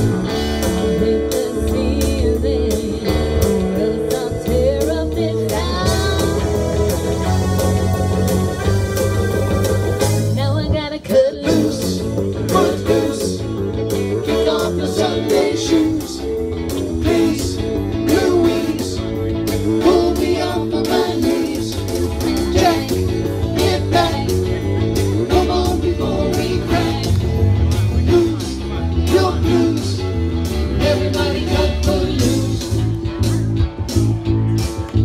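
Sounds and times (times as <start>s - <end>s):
steady drum beat: 0.0s - 10.9s, 11.5s - 35.0s
electric guitars: 0.0s - 35.0s
live rock band: 0.0s - 35.0s.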